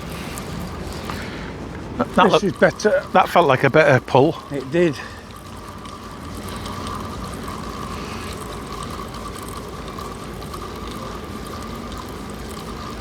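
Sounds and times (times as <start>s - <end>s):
constant high hum: 0.0s - 13.0s
steady rushing noise: 0.0s - 13.0s.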